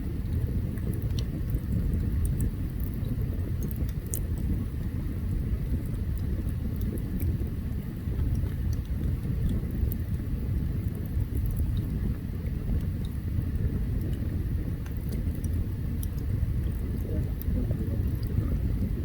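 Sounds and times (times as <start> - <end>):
campfire crackling and popping: 0.0 - 19.0
low rumble: 0.0 - 19.0.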